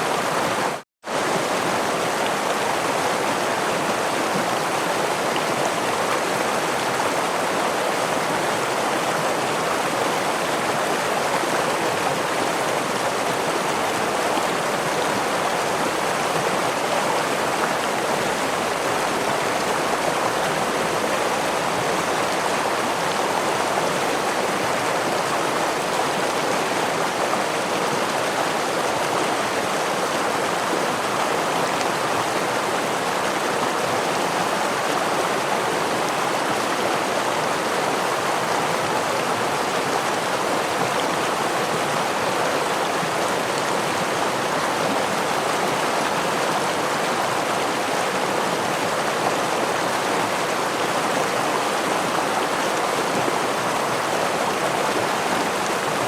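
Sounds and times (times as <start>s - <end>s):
water rushing over waterfall: 0.0s - 56.0s.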